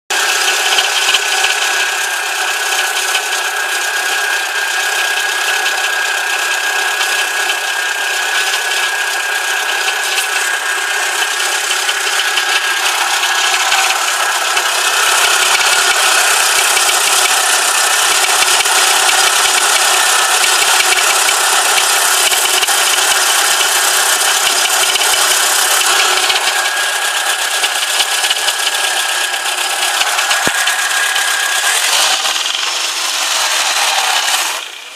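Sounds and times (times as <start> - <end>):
engine knocking rattle: 0.1 - 34.9
supercharger whine: 0.1 - 34.9.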